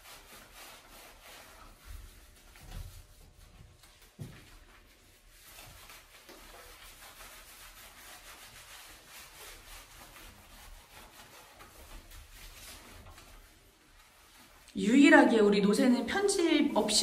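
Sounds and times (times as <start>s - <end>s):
hands rubbing wet fur: 0.0s - 17.0s.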